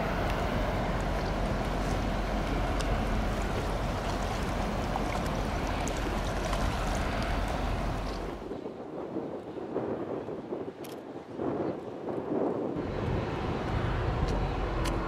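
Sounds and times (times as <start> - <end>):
low ship engine rumble: 0.0 - 11.3, 12.2 - 15.0
water rushing along hull: 0.0 - 15.0.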